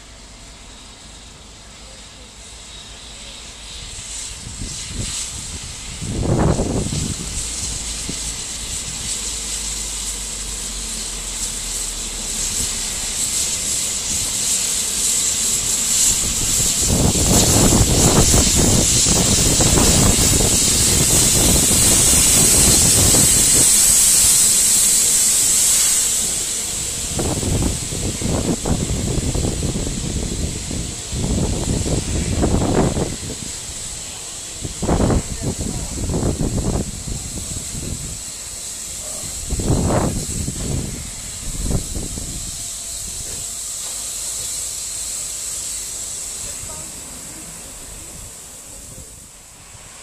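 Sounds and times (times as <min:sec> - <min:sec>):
steam hissing: 0:00.0 - 0:50.0
train wheels rumbling on track: 0:00.0 - 0:50.0.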